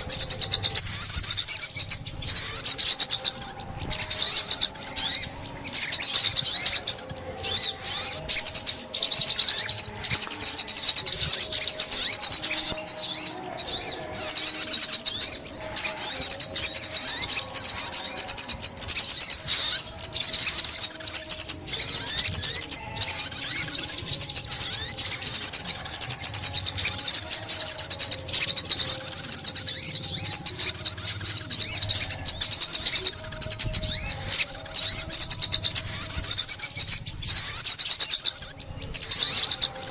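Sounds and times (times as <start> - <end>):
bird twittering and trills: 0.0 - 39.9.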